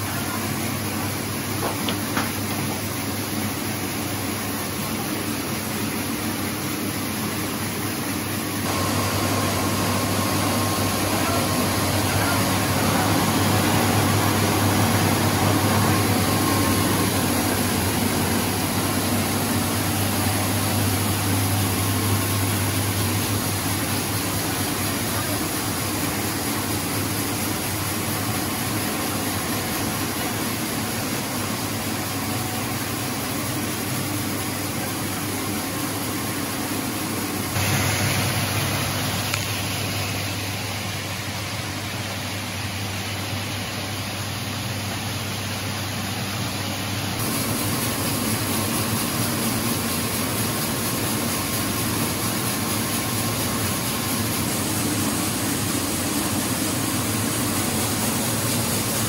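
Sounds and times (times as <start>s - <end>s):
rice husker machinery running: 0.0s - 59.0s.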